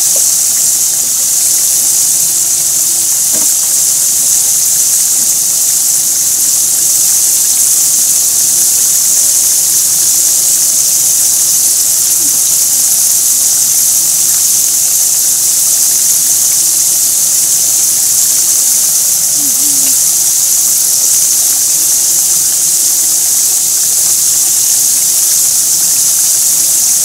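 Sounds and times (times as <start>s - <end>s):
oil sizzling deep frying: 0.0s - 27.0s.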